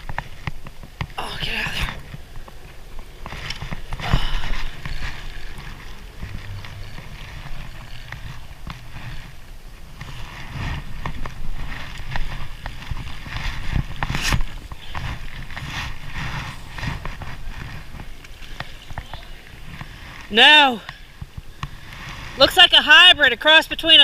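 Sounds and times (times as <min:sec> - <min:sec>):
rain jacket rustling: 0:00.0 - 0:20.4.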